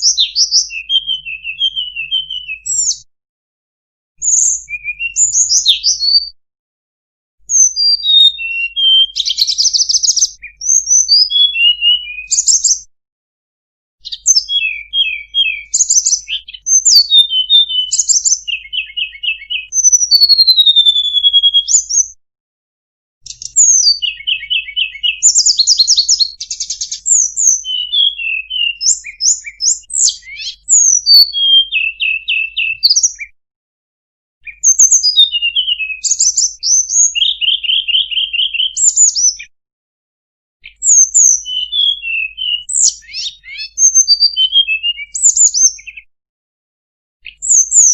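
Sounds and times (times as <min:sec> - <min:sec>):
songbird chirping and trilling: 0:00.0 - 0:03.1, 0:04.2 - 0:06.4, 0:07.5 - 0:12.9, 0:14.0 - 0:22.2, 0:23.2 - 0:33.4, 0:34.4 - 0:39.5, 0:40.6 - 0:46.1, 0:47.2 - 0:47.9.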